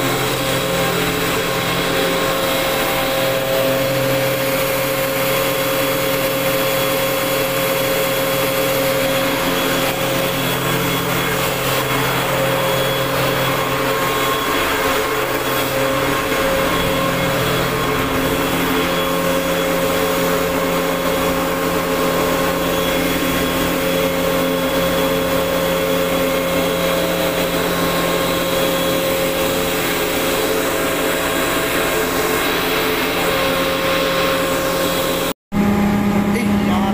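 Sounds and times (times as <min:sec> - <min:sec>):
air compressor running: 0:00.0 - 0:36.9.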